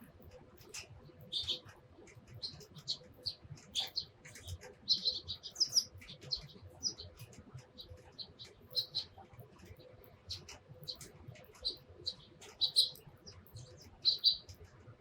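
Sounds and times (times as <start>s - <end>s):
sparrows chirping: 1.2s - 1.7s, 2.3s - 14.6s.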